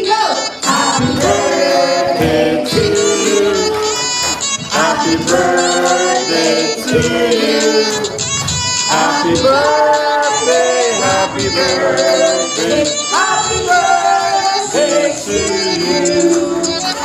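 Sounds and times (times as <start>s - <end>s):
upbeat song with singing: 0.0s - 17.0s.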